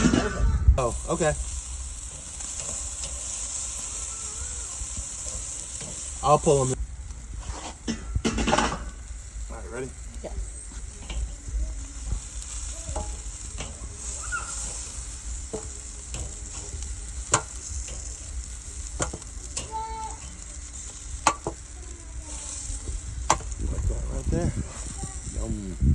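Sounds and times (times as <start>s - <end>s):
chicken sizzling on a grill: 0.0s - 25.9s
fat popping and crackling: 0.0s - 25.9s.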